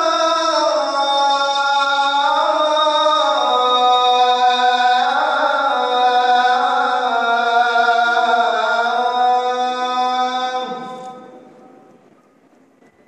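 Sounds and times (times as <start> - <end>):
man chanting prayer: 0.0 - 11.5.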